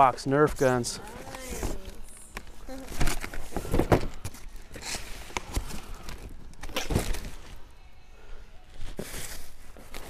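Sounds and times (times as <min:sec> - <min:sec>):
cardboard boxes rustling: 0:00.4 - 0:07.7, 0:08.8 - 0:10.0.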